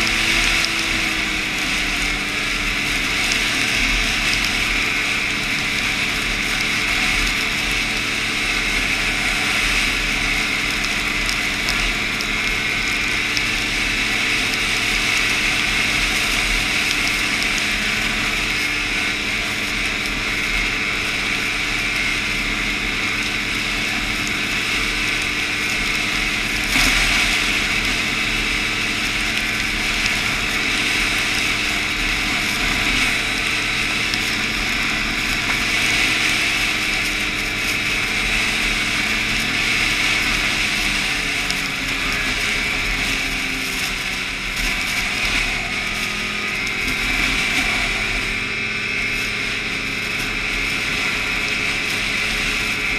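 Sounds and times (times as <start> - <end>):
hiss of track on snow: 0.0 - 52.9
snowmobile engine drone: 0.0 - 52.9.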